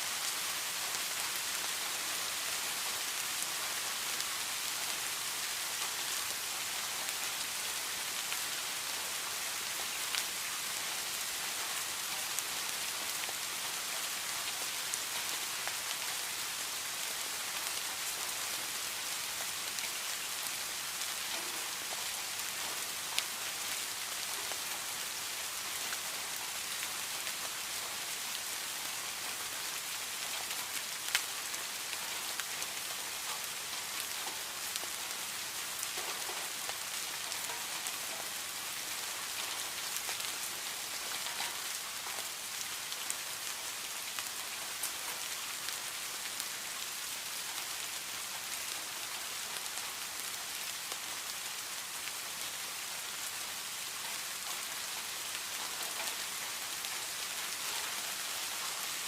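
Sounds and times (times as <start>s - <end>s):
sharp close raindrops: 0.0s - 59.0s.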